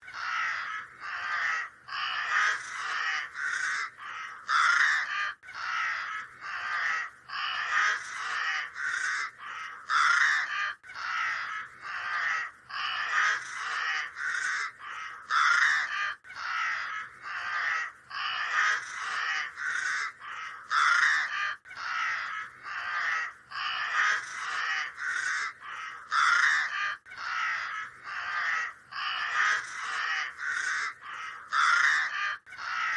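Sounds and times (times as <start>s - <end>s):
flock of birds calling: 0.0s - 32.9s.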